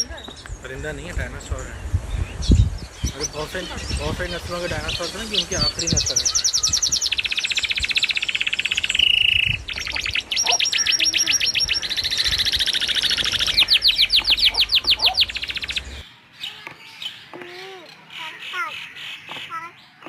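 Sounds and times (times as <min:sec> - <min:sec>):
bird trilling: 0:02.4 - 0:20.0.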